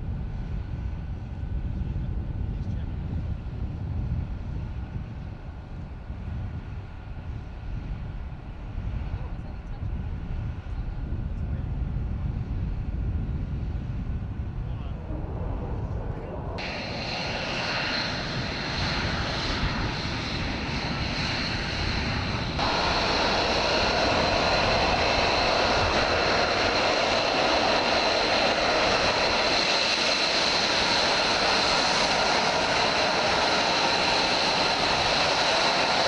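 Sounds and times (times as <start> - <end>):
aircraft engine whining: 0.1 - 36.0.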